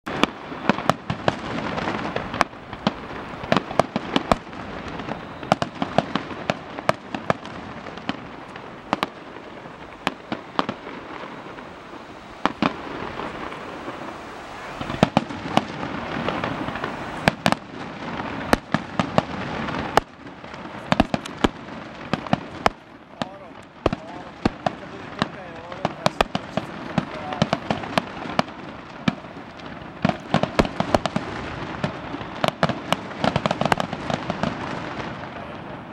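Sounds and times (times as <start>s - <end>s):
fireworks bursting with sharp bangs: 0.0s - 35.9s
continuous background noise: 0.1s - 35.9s.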